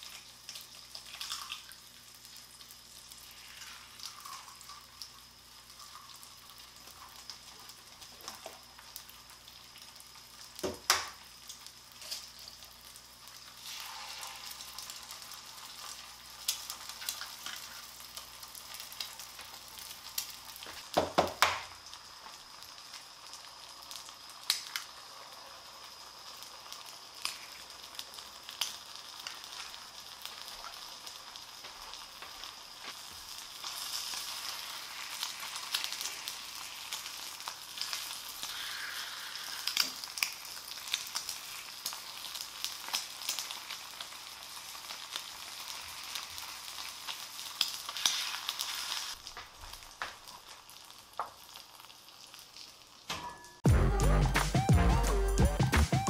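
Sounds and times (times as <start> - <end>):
bacon and eggs sizzling: 0.0 - 55.4.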